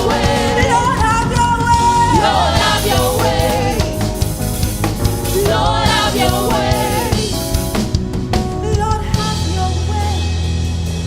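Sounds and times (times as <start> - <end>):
gospel worship band music: 0.0 - 11.0.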